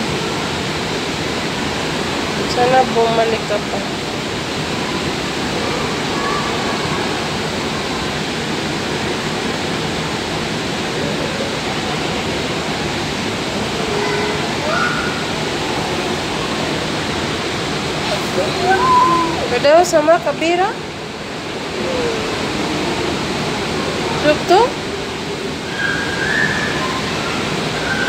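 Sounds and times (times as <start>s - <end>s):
steady rushing ambience: 0.0s - 28.0s.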